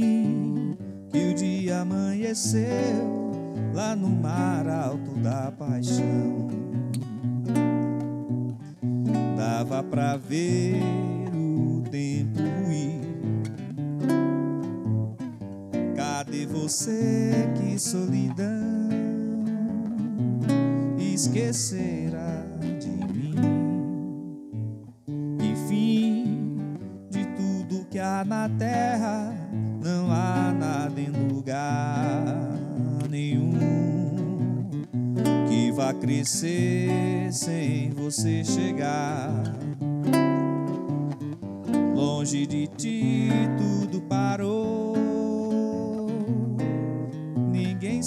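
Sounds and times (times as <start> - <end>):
man singing: 0.0 - 7.1, 9.0 - 13.8, 15.7 - 24.5, 25.2 - 48.0
acoustic guitar strumming: 0.0 - 48.0.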